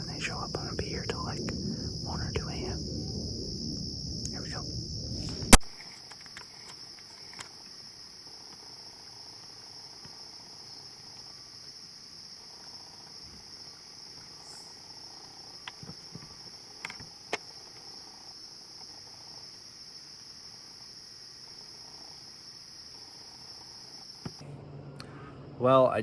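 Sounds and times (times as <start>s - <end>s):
crickets trilling: 0.0s - 24.4s.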